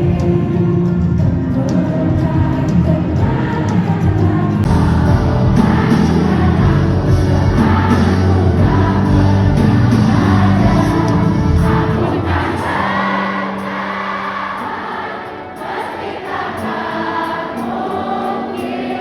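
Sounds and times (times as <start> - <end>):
music with singing voices: 0.0 - 19.0.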